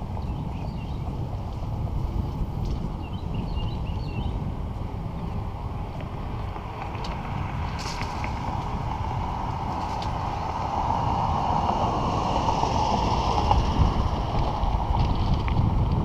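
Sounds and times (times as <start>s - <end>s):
bicycle rolling rumble: 0.0s - 16.0s
wind buffeting microphone: 0.0s - 16.0s.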